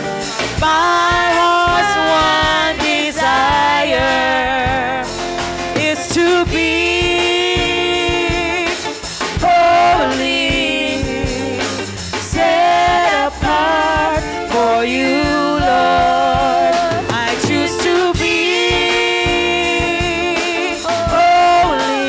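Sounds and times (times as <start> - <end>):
drum kit and band: 0.0 - 22.0
women singing gospel: 0.0 - 22.0.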